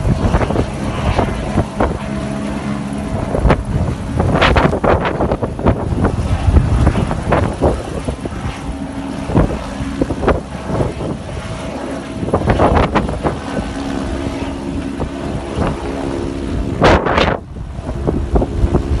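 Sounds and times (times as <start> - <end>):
helicopter flying overhead: 0.0 - 19.0
wind gusts on microphone: 0.0 - 19.0.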